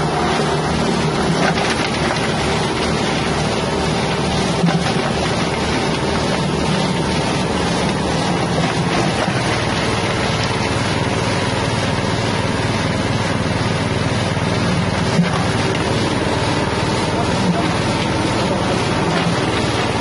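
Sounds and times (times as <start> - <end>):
hammer mill grinding: 0.0 - 20.0
petrol engine running under load: 0.0 - 20.0.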